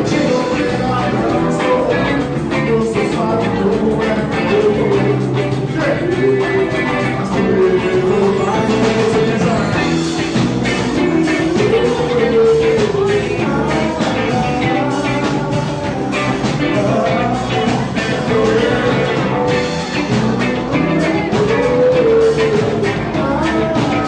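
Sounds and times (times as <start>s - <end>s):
band playing: 0.0s - 24.0s
drums with steady beat: 0.0s - 24.0s
person singing: 0.0s - 24.0s.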